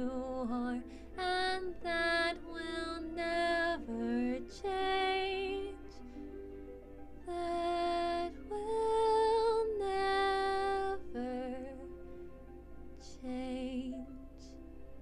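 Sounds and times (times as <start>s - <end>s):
gentle song with held notes: 0.0s - 15.0s.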